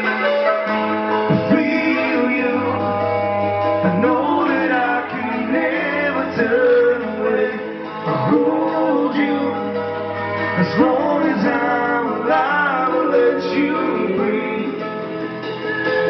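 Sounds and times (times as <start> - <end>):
keyboard: 0.0 - 16.0
strummed acoustic guitar: 0.0 - 16.0
man singing: 1.3 - 15.2.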